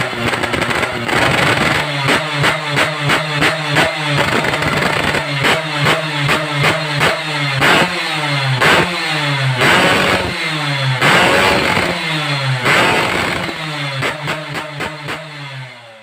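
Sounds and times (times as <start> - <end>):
engine revving in throttle blips: 0.0 - 16.0.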